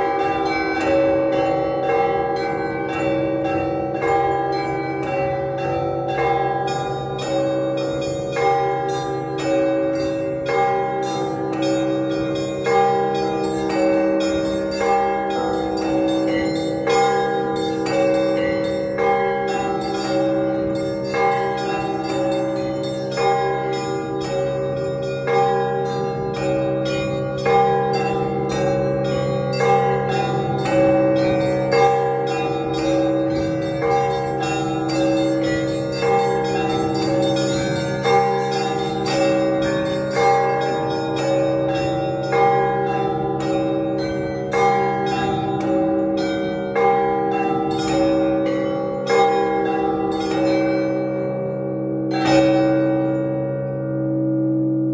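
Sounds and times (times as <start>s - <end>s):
big bell low hum: 0.0s - 54.9s
mid-sized bells ringing: 0.0s - 54.9s.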